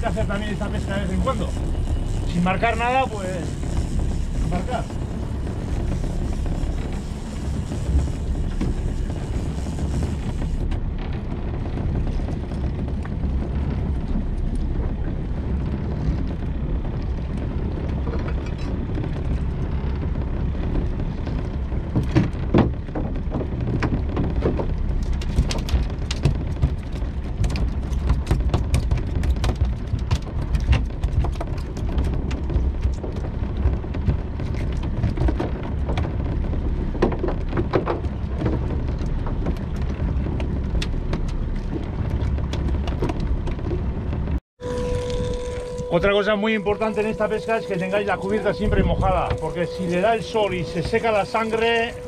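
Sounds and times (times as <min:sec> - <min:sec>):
boat engine idling: 0:00.0 - 0:52.0.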